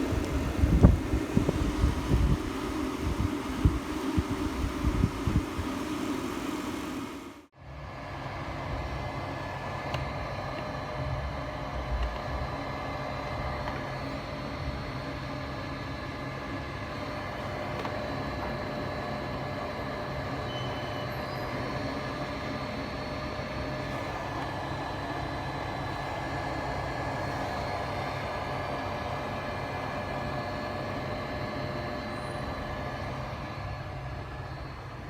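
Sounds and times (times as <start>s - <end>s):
mechanical hum and rumble: 0.0s - 35.0s.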